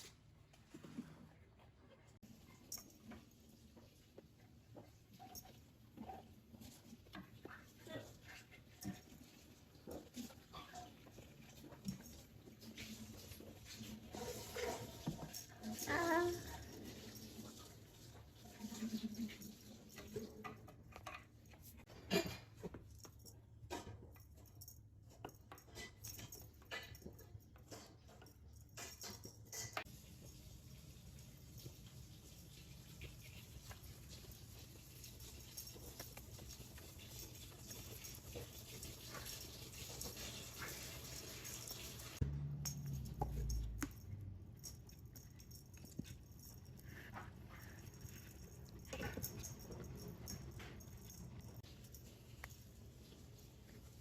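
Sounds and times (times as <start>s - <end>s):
cats eating from dishes: 0.0s - 54.0s.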